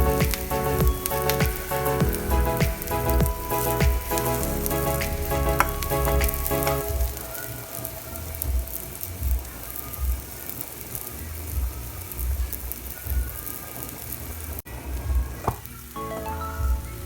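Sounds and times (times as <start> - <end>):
background music with beat: 0.0 - 13.9, 14.9 - 17.0.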